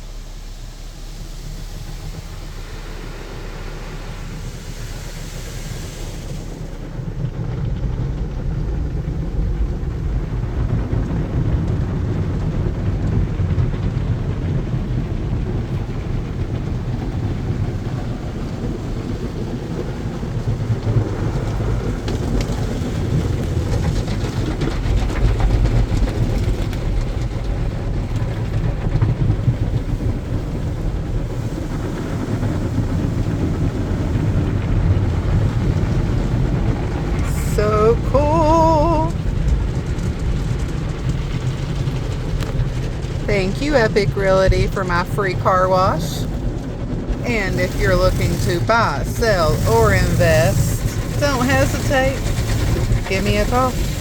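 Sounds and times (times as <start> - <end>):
car wash water and machinery: 0.0 - 54.0.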